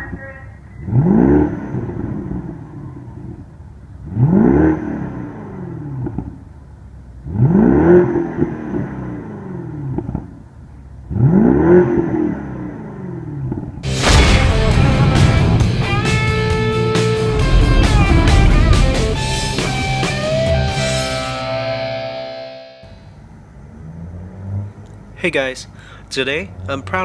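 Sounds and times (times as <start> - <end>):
car engine revving: 0.8 - 25.2.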